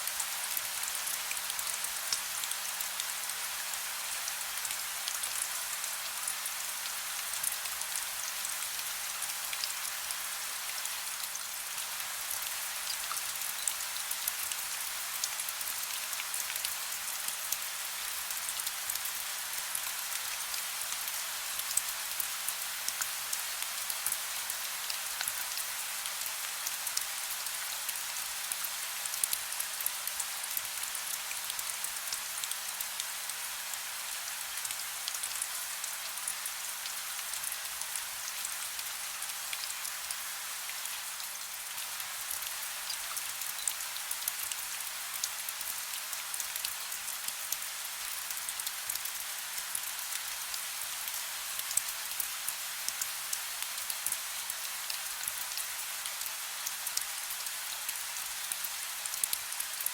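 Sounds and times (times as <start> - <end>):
soft rain: 0.0 - 59.9.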